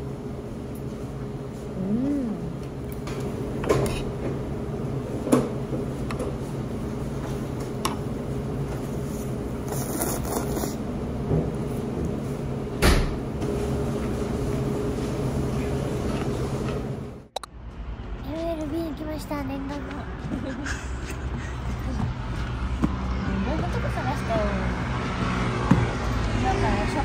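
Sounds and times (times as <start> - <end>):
restaurant hum: 0.0 - 27.0.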